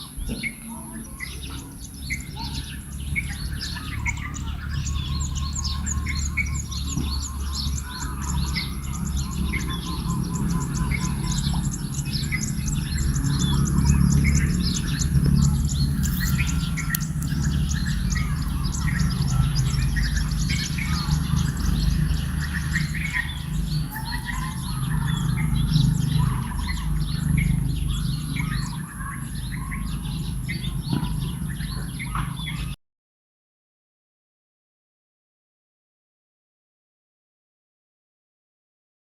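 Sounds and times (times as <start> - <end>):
birds chirping: 0.0 - 32.8
steady low rumble: 0.1 - 32.7.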